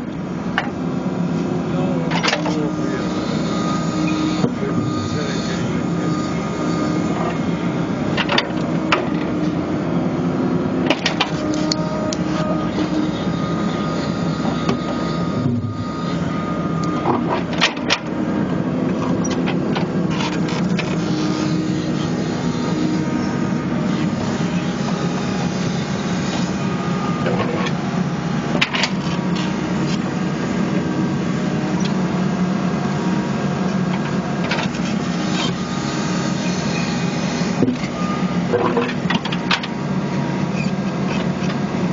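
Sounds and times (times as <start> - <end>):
excavator diesel engine running: 0.0 - 41.9
hydraulic whine: 0.0 - 41.9.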